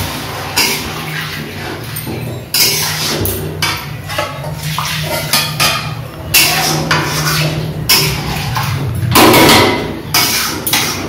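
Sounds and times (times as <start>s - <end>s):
metal spatula scraping pan: 0.0s - 11.0s.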